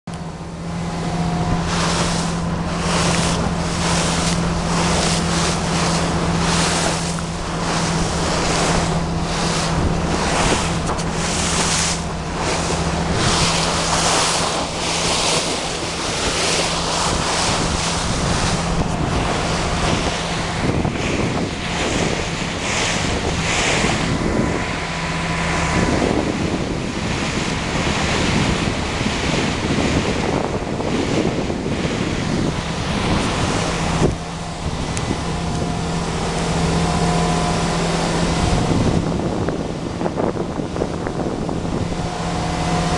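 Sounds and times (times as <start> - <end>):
boat engine hum: 0.0 - 42.9
hull slapping waves: 0.0 - 42.9
wind buffeting microphone: 0.1 - 42.9.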